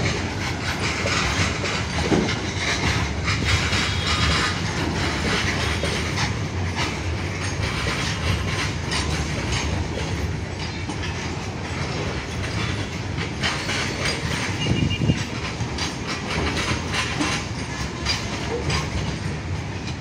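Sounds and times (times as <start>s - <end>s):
train wagons rumbling: 0.0s - 20.0s
wheels clacking on rail joints: 0.0s - 20.0s.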